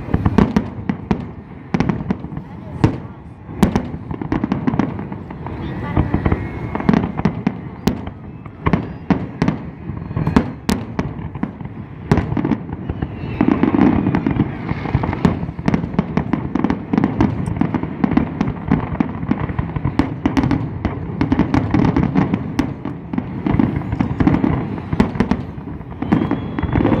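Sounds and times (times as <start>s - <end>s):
fireworks exploding: 0.0s - 27.0s.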